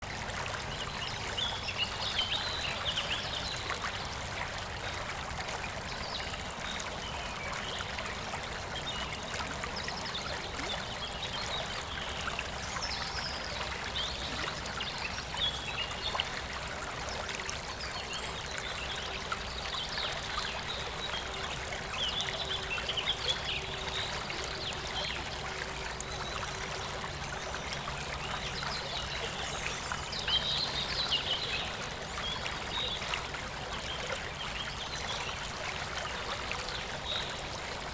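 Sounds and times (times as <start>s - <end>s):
stream trickling over stones: 0.0s - 37.9s.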